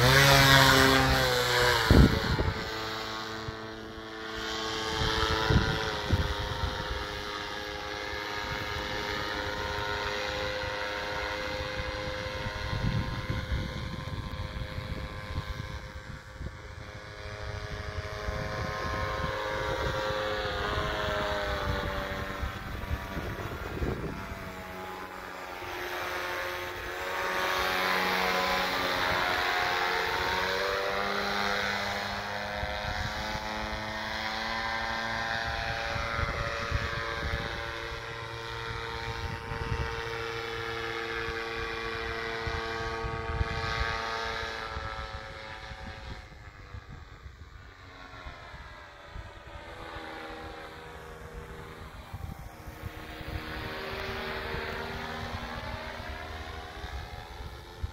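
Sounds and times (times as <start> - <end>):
model motor and propeller running: 0.0 - 57.9.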